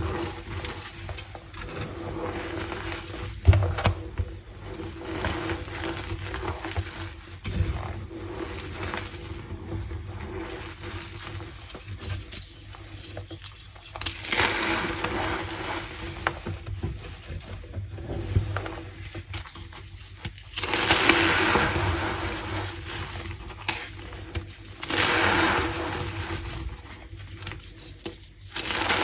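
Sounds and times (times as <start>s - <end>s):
chalk crumbling with squeaky crunch: 4.6s - 29.0s.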